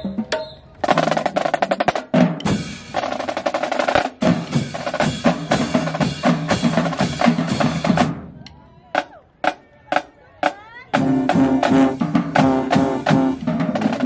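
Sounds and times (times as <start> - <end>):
snare drumline cadence: 0.0 - 14.0.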